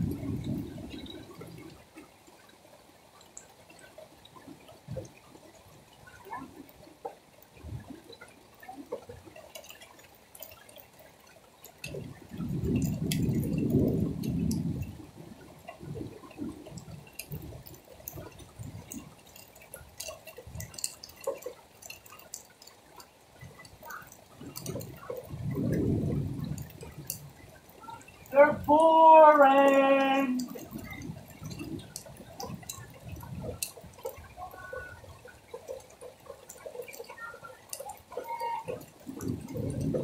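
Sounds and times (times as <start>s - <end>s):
drops dripping and ticking: 0.0s - 40.0s
rain falling: 0.0s - 40.0s.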